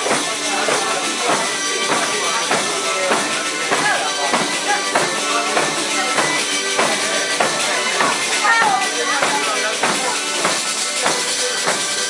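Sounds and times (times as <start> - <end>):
frame drums with jingles: 0.0 - 12.0
voices singing: 0.0 - 12.0.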